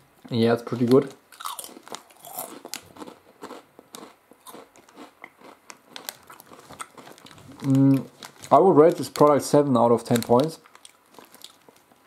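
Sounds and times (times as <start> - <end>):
crisps being chewed: 0.7 - 12.0.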